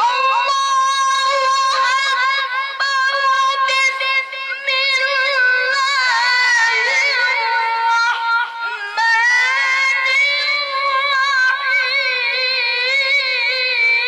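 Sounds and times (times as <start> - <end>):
child chanting recitation: 0.0 - 14.0.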